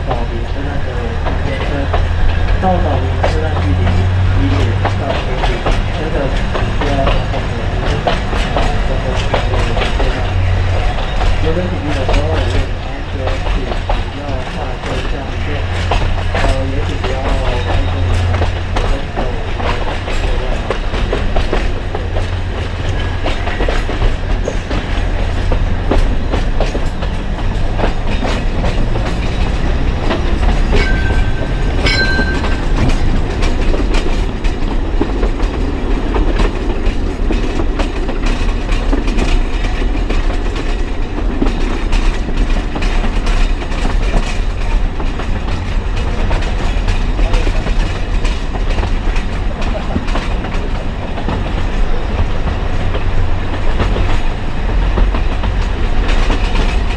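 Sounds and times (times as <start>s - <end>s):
train rumbling: 0.0s - 56.9s
wheels clicking over rail joints: 0.0s - 56.9s.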